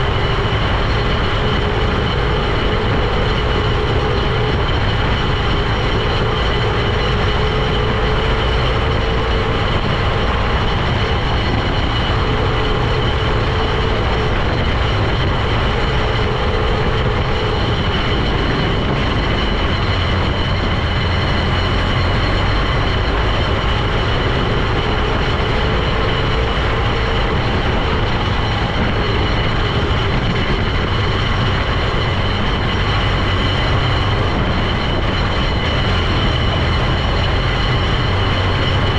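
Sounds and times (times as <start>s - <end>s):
heavy vehicle engine rumble: 0.0s - 38.9s
steady high whine: 0.0s - 38.9s
wavering mid whine: 0.0s - 38.9s.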